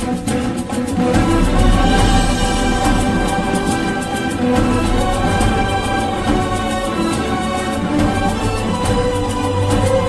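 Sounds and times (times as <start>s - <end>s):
cinematic background music: 0.0s - 10.0s.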